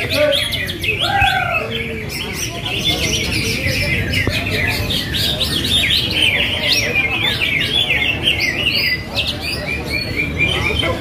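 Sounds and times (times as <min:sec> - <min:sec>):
birds singing chirps and whistles: 0:00.0 - 0:11.0
low background noise: 0:00.0 - 0:11.0.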